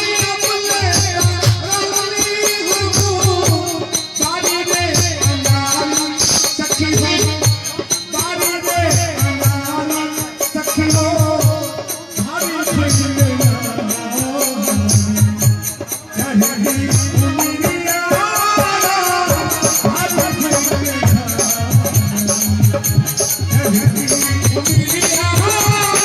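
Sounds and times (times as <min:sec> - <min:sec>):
drum beat: 0:00.0 - 0:26.0
man singing: 0:00.0 - 0:26.0.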